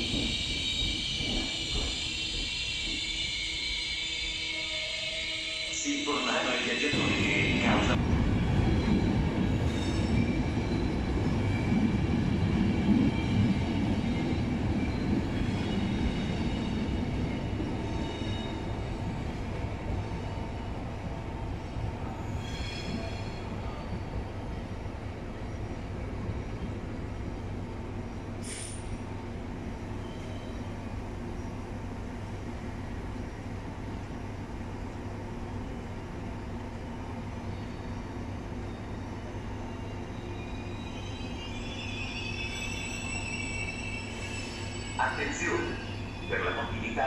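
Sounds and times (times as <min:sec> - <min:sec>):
train rumbling on tracks: 0:00.0 - 0:47.0.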